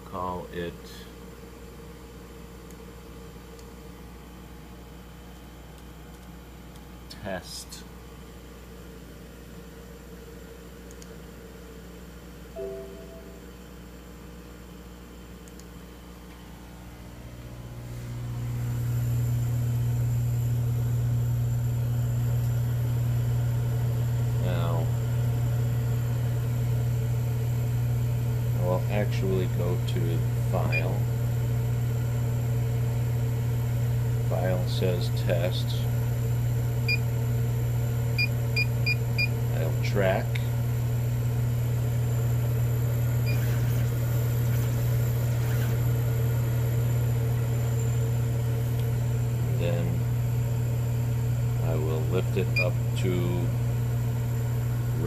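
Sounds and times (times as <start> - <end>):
low electric pump hum: 0.0 - 55.0.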